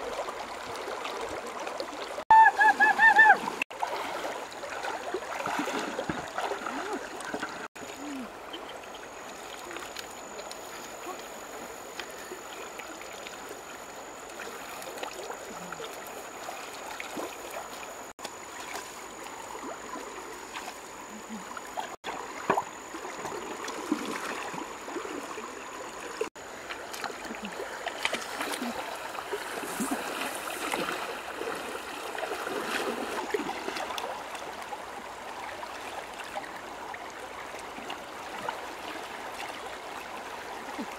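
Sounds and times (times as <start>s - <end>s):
river running over stones: 0.0s - 40.9s
small water splashes: 0.0s - 40.9s.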